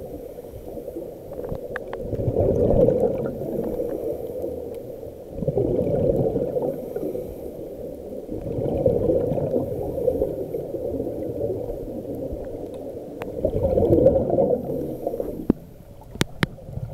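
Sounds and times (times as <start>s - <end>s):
underwater exhaled bubbles gurgling: 0.0s - 16.9s.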